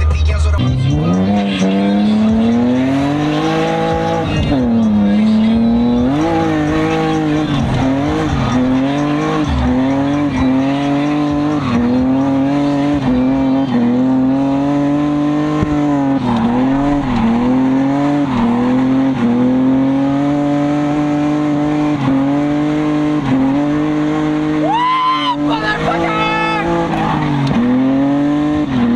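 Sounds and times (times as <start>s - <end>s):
car engine at high revs: 0.0s - 28.9s.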